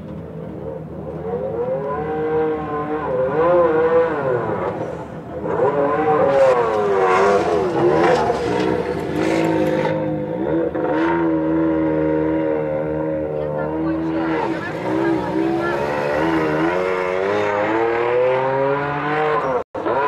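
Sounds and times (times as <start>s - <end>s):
car engine revving: 0.4s - 20.0s.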